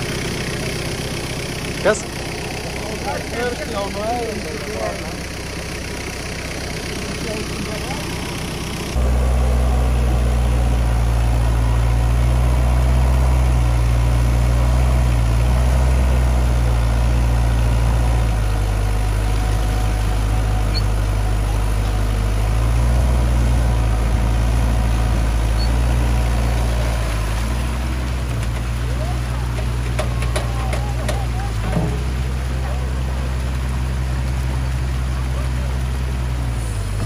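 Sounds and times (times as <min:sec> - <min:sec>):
diesel engine idling: 0:00.0 - 0:37.0
water rushing along a ditch: 0:00.0 - 0:37.0.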